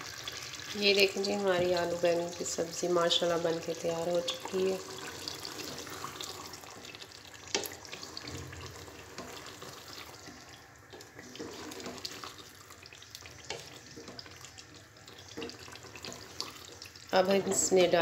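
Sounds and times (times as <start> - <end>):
curry sizzling faintly: 0.0 - 18.0.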